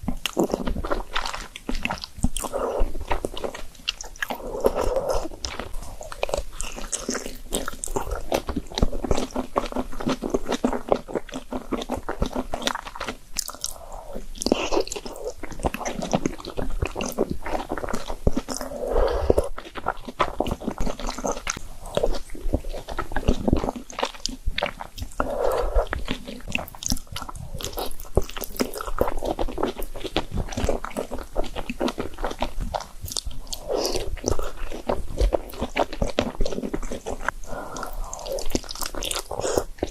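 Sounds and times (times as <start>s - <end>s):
chewing and biting noodles: 0.1s - 39.9s.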